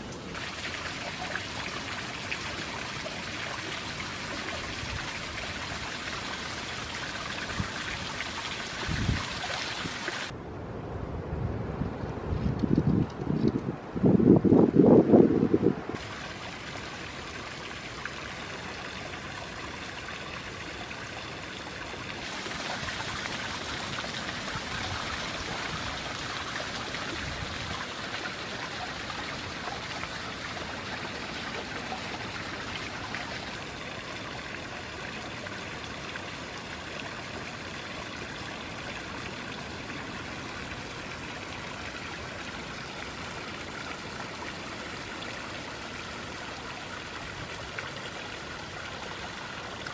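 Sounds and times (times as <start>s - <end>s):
creek water flowing: 0.0s - 10.4s, 14.0s - 49.9s.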